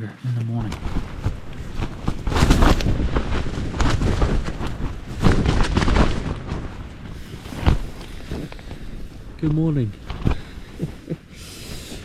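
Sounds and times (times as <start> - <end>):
tarp flapping and cracking: 0.6 - 12.0
wind gusting against microphone: 0.6 - 12.0.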